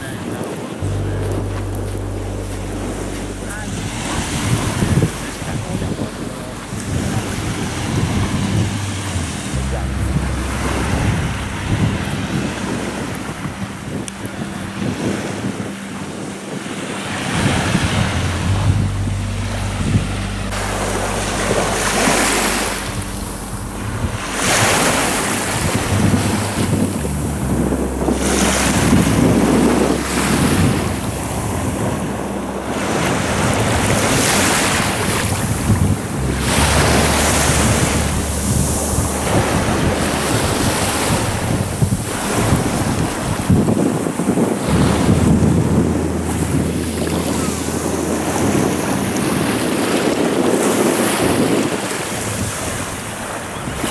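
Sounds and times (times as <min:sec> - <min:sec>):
small waves washing onto beach: 0:00.0 - 0:53.9
wind buffeting microphone: 0:00.0 - 0:53.9.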